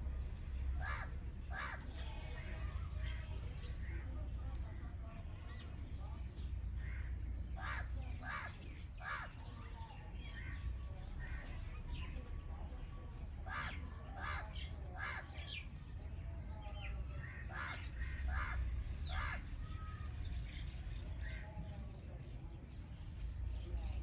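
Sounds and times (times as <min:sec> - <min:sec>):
harsh bird calls: 0:00.1 - 0:04.2, 0:05.2 - 0:21.5.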